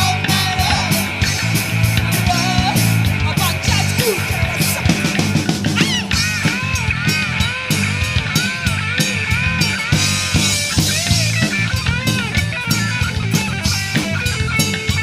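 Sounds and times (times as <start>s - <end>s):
bass guitar: 0.0s - 15.0s
driving drum kit: 0.0s - 15.0s
electric guitar lead: 0.0s - 15.0s.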